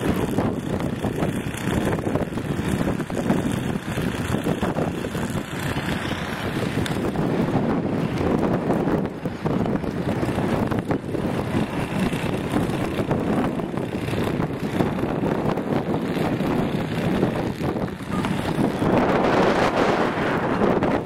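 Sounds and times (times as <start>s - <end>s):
gusting wind buffeting microphone: 0.0s - 21.0s.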